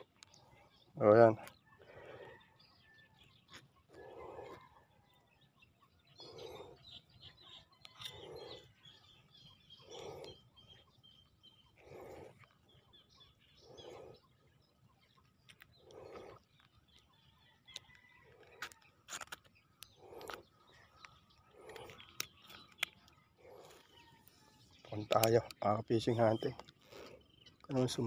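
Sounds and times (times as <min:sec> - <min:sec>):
faint bird chirps: 0:00.0 - 0:28.0.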